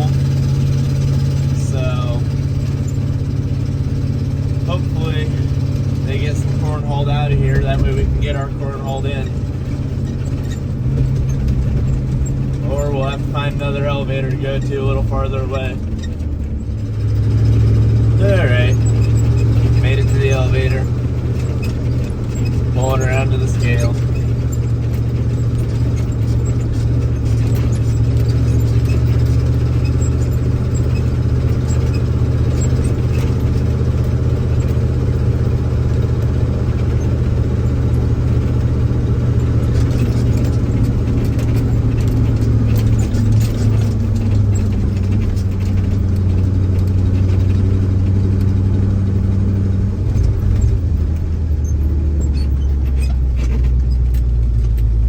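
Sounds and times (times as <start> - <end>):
light clattering: 0.0 - 55.0
truck engine humming at low speed: 0.0 - 55.0.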